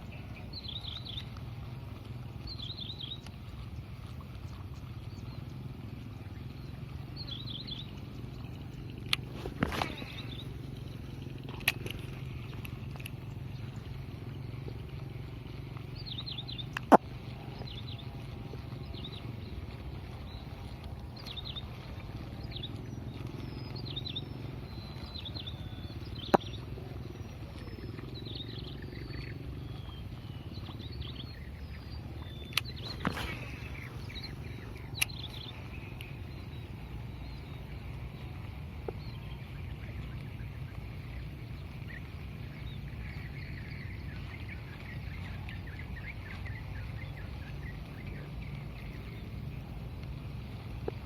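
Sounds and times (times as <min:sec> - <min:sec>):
birds chirping: 0:00.0 - 0:51.0
steady low hum: 0:00.0 - 0:51.0.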